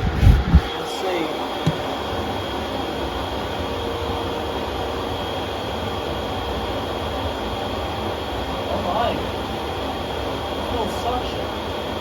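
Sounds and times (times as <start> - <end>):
upright vacuum cleaner running: 0.0 - 12.0.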